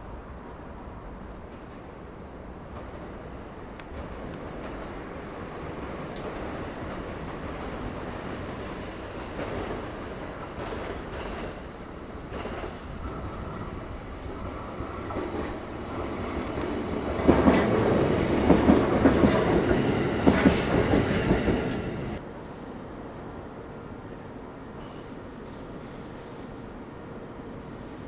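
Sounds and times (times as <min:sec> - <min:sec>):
train passing rumble: 0:00.0 - 0:28.0.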